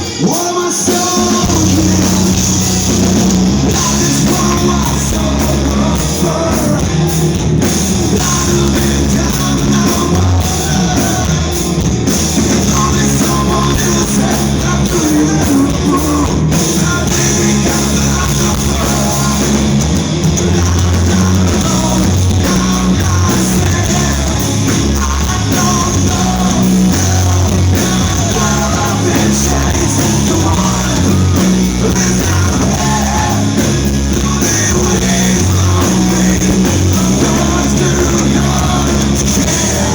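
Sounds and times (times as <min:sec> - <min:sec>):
live rock band playing: 0:00.0 - 0:39.9
vocalist singing: 0:00.0 - 0:39.9.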